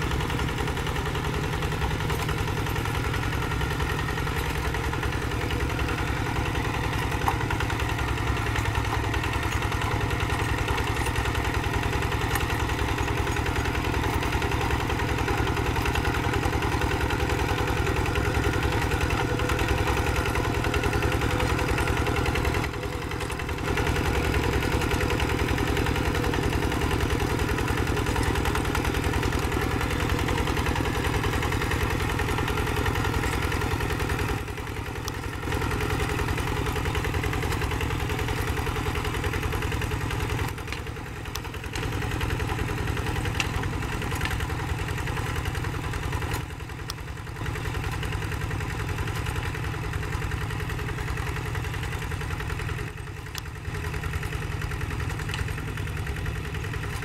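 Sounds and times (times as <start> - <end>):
diesel engine running: 0.0 - 57.0
wheels ploughing through mud: 0.0 - 57.0.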